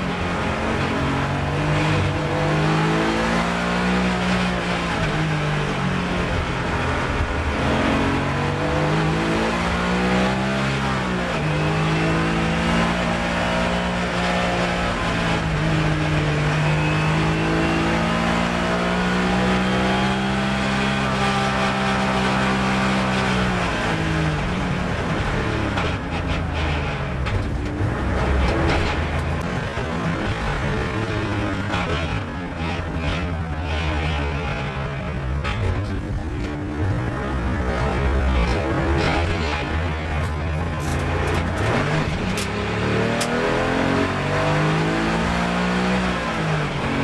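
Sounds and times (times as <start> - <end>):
race car engine accelerating: 0.0 - 47.0.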